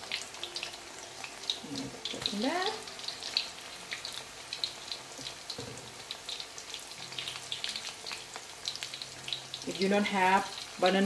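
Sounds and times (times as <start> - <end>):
deep-frying sizzle and pops: 0.0 - 11.0.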